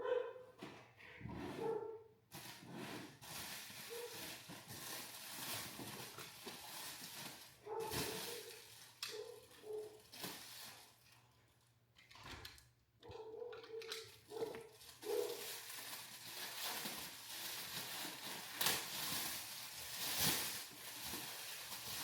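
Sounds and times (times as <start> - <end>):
rustling and handling noises: 0.6 - 22.0.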